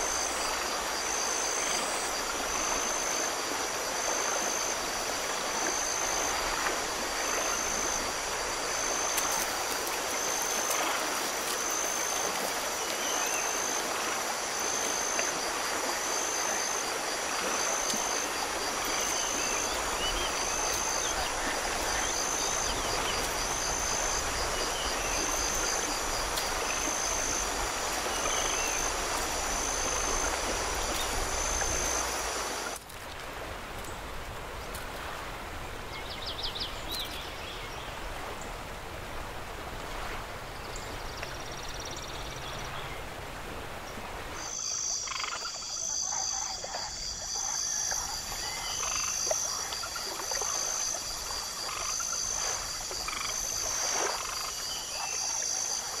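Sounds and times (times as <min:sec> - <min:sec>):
rushing water noise: 0:00.0 - 0:56.0.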